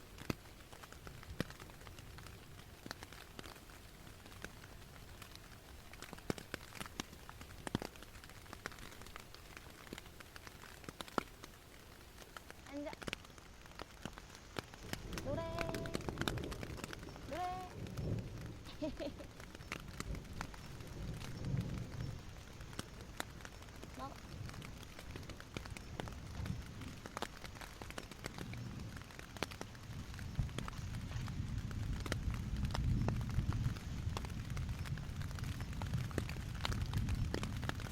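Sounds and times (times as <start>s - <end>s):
heavy rain hissing: 0.0s - 37.9s
raindrops ticking on surface: 0.0s - 37.9s.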